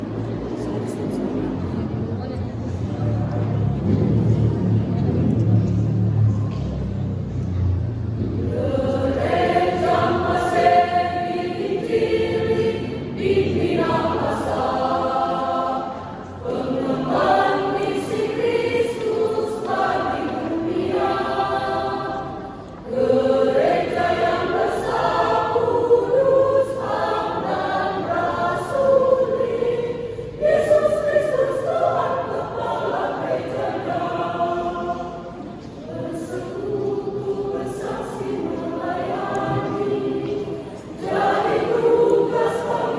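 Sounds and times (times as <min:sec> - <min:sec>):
church choir singing a hymn: 0:08.0 - 0:42.9.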